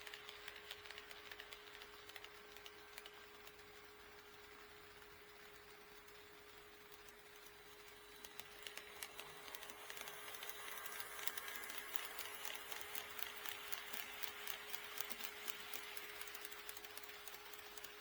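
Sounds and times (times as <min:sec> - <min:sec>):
model train running hiss: 0:00.0 - 0:18.0.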